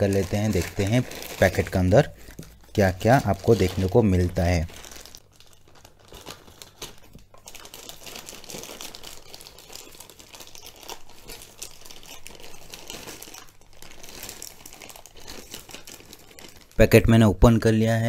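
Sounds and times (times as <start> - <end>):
plastic mailer bag crinkling: 0.0 - 17.6.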